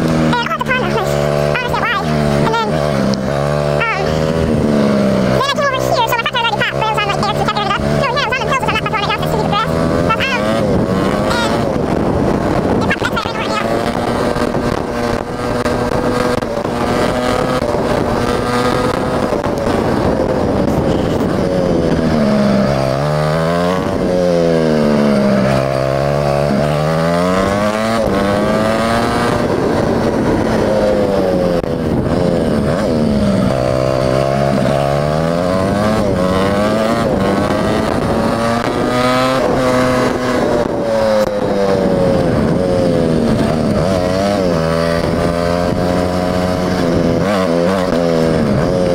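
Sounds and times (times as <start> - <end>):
small bike engine revving: 0.0 - 48.9.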